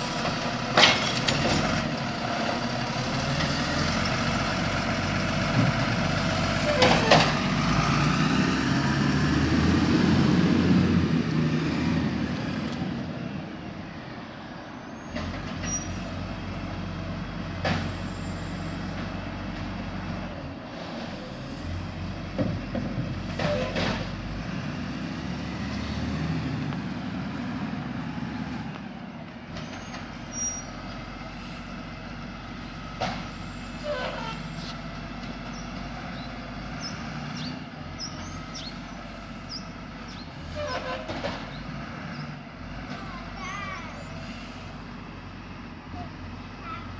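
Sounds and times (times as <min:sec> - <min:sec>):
short sharp truck noises: 0:00.0 - 0:13.2, 0:14.9 - 0:46.9
garbage truck diesel engine running: 0:00.0 - 0:46.9.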